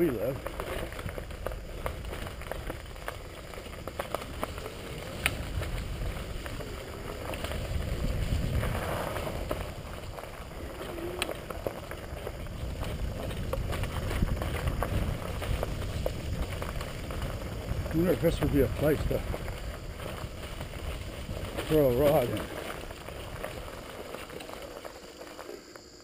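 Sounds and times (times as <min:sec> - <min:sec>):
wind noise on microphone: 0:00.0 - 0:24.6
bicycle tyres rumbling on dirt: 0:00.0 - 0:26.0
bike clicks and rattles: 0:00.0 - 0:26.0.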